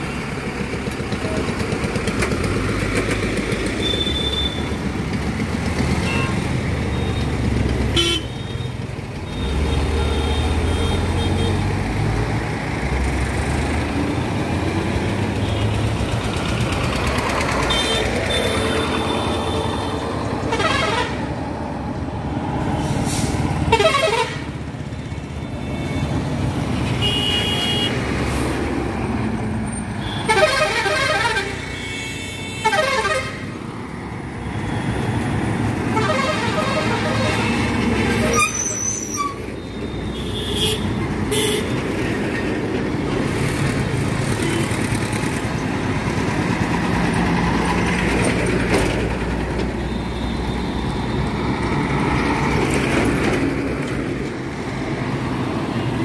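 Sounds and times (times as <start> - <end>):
highway traffic rumble: 0.0 - 56.0.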